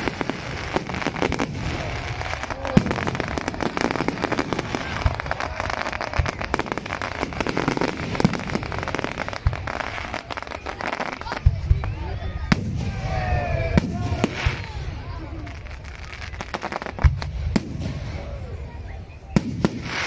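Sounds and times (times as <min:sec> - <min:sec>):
fireworks bangs: 0:00.0 - 0:20.0
fireworks crackling and popping: 0:00.0 - 0:20.0.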